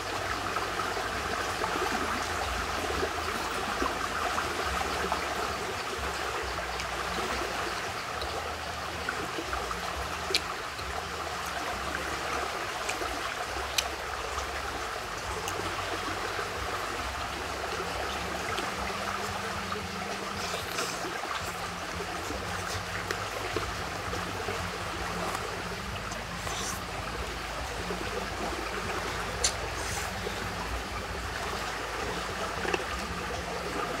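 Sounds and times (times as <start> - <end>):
small stream trickling: 0.0 - 34.0.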